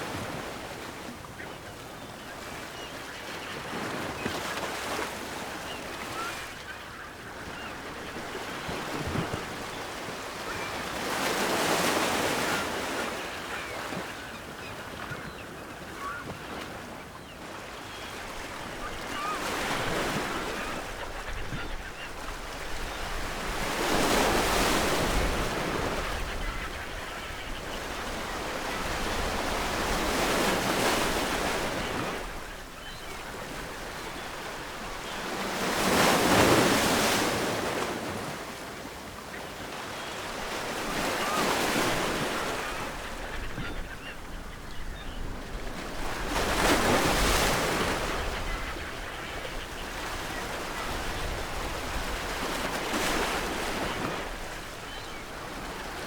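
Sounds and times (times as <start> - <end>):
distant seagulls calling: 0.1 - 56.0.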